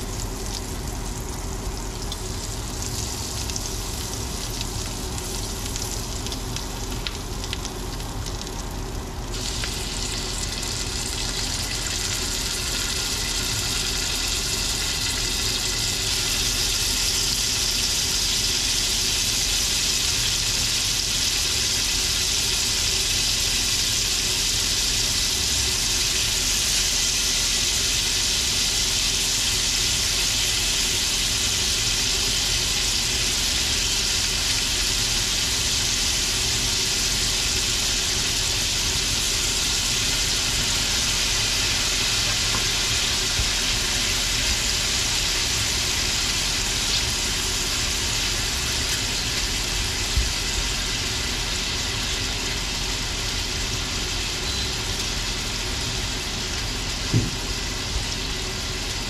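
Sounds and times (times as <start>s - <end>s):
butter sizzling in a frying pan: 0.0s - 59.0s.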